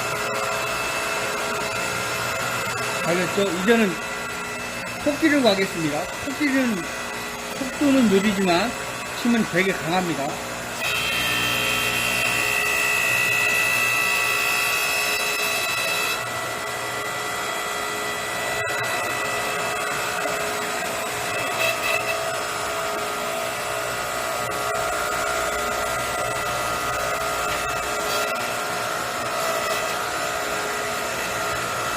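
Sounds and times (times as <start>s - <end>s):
hydraulic motor whining: 0.0s - 31.9s.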